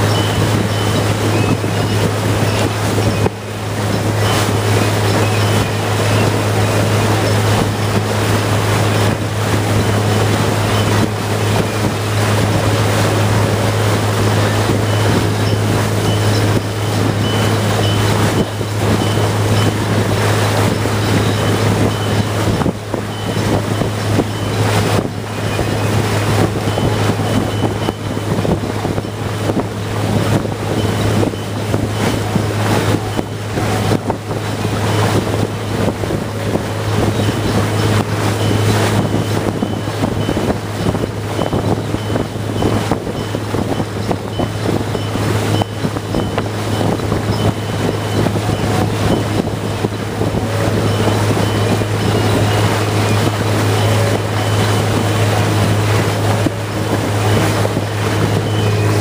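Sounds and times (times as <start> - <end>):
boat engine droning: 0.0 - 59.0
wake churning water: 0.0 - 59.0
wind buffeting microphone: 0.0 - 59.0.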